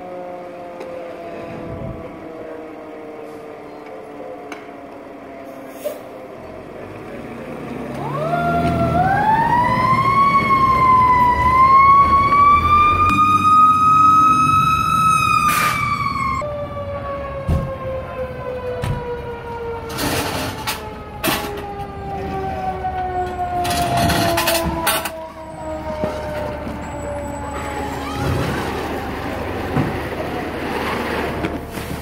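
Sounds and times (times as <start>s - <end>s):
fire engine siren wailing: 0.0s - 32.0s.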